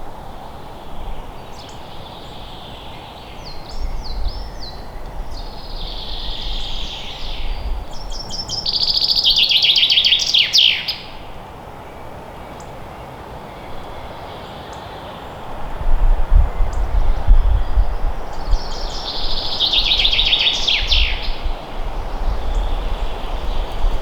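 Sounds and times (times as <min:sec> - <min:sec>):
birds singing: 0:00.0 - 0:15.6, 0:16.3 - 0:24.0.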